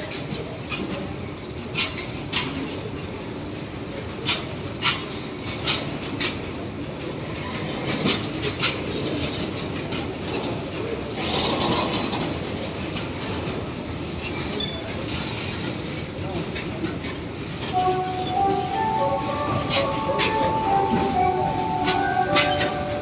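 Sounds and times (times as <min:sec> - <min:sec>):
freight train rumbling past: 0:00.0 - 0:23.0
wheel clacks over rail joints: 0:00.0 - 0:23.0.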